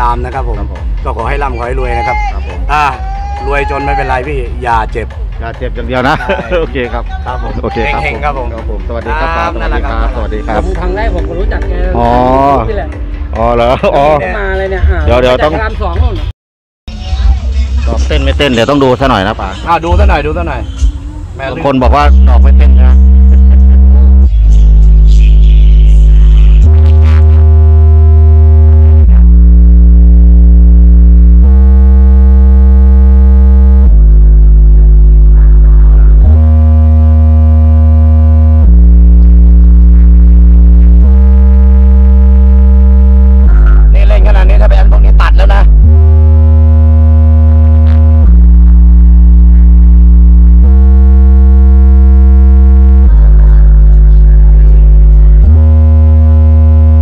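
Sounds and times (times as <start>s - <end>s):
deep synth bass notes: 0.0s - 16.3s, 16.9s - 57.0s.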